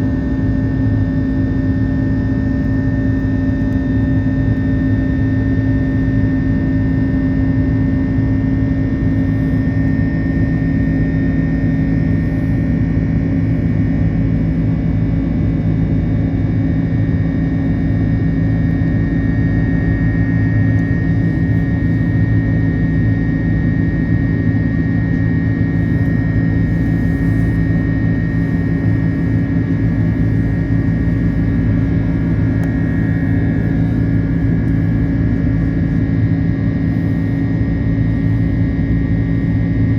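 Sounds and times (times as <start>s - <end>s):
aircraft cabin engine drone: 0.0s - 39.9s
constant hum tones: 0.0s - 39.9s.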